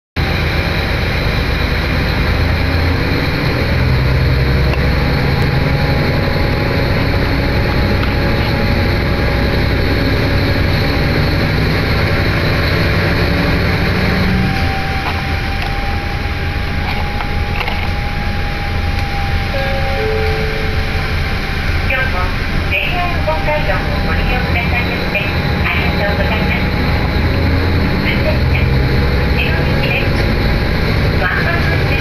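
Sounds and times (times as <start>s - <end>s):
diesel railcar engine idling: 0.2s - 32.0s.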